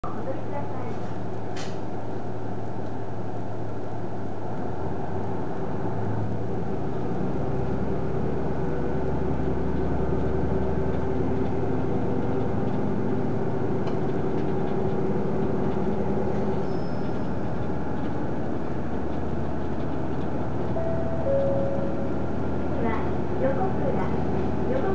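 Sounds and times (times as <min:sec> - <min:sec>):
train diesel engine accelerating: 0:00.0 - 0:24.9
train running rumble: 0:00.0 - 0:24.9.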